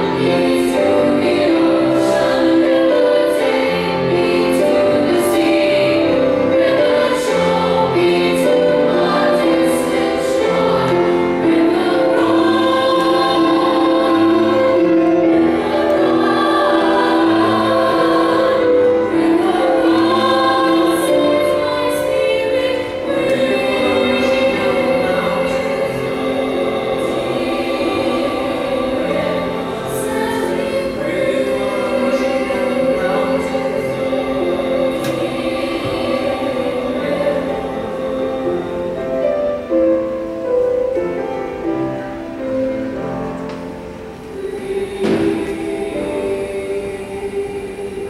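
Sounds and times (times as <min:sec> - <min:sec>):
choir singing in harmony: 0:00.0 - 0:48.0
piano accompaniment: 0:00.0 - 0:48.0.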